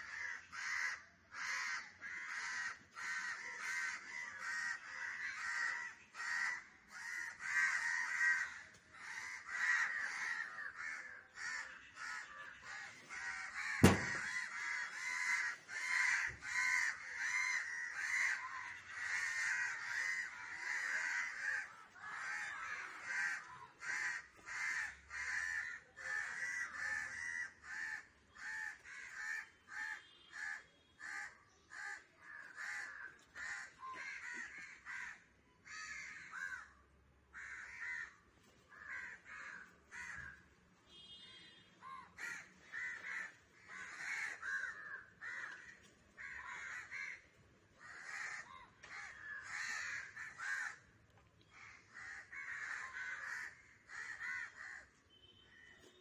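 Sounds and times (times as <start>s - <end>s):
crow cawing harshly: 0.0s - 50.9s, 51.5s - 55.6s.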